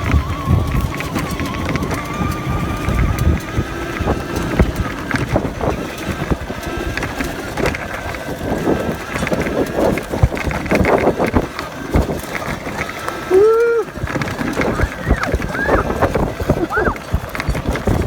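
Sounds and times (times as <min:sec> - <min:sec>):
bike rattling over bumps: 0:00.0 - 0:18.0
wind buffeting microphone: 0:00.0 - 0:18.0.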